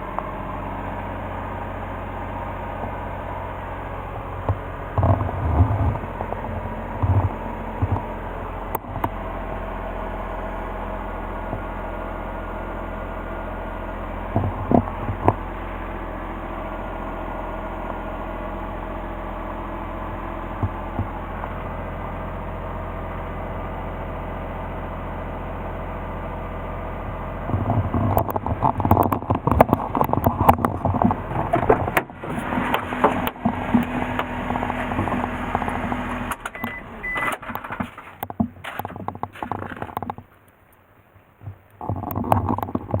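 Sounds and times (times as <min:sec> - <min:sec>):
engine knocking and rattling: 0:00.0 - 0:40.4, 0:41.4 - 0:43.0
small truck engine running: 0:00.0 - 0:43.0.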